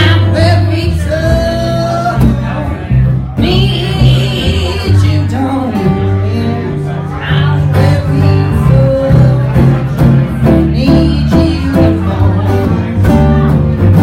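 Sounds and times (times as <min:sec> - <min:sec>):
acoustic guitar picking: 0:00.0 - 0:14.0
steady bass line: 0:00.0 - 0:14.0.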